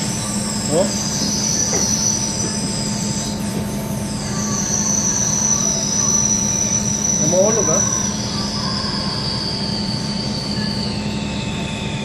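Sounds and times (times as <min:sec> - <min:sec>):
high-pitched cutting squeal: 0:00.0 - 0:12.0
motor hum: 0:00.0 - 0:12.0.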